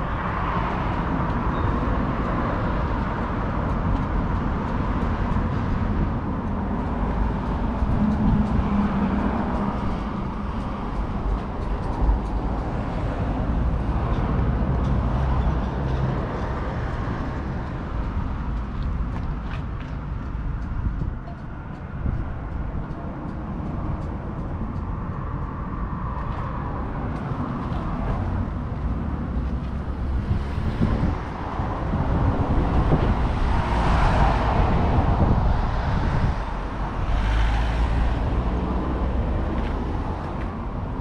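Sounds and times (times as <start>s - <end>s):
road traffic going past: 0.0s - 41.0s.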